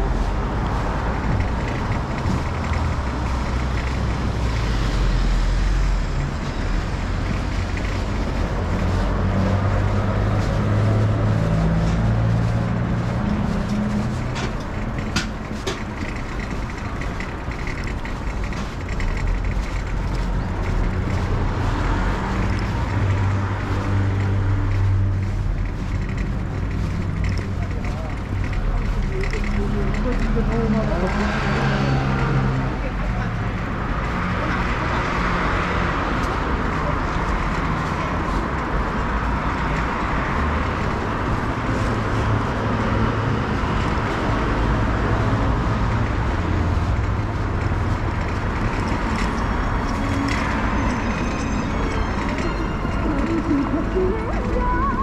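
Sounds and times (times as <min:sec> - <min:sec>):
street traffic passing: 0:00.0 - 0:55.0.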